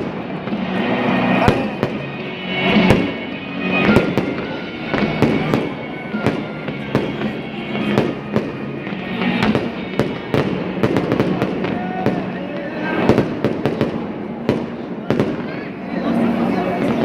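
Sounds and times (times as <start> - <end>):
background music: 0.0 - 17.0
fireworks bangs and crackles: 0.0 - 17.0.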